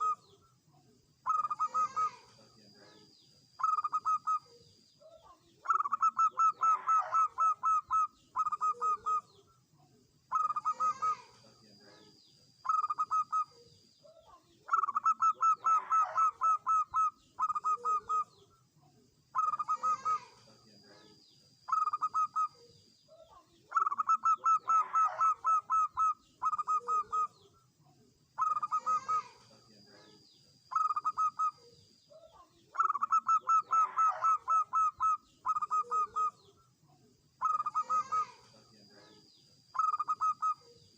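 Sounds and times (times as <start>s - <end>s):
dove cooing: 0.0s - 0.5s, 1.2s - 9.4s, 10.3s - 18.6s, 19.3s - 27.5s, 28.4s - 36.6s, 37.4s - 40.9s.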